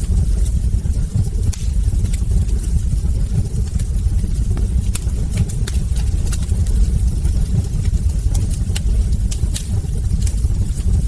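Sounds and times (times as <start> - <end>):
fire flames rumbling: 0.0 - 11.0
logs crackling and popping: 0.0 - 11.0.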